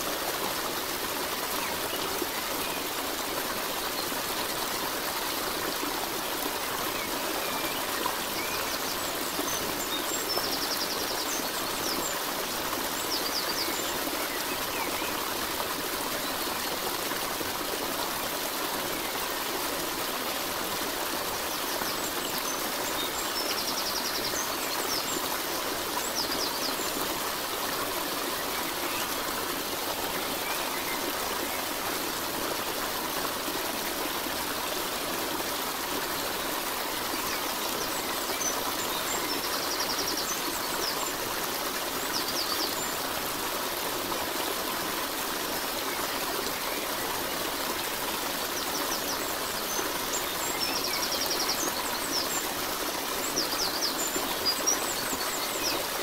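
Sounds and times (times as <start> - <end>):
stream running water: 0.0 - 56.0.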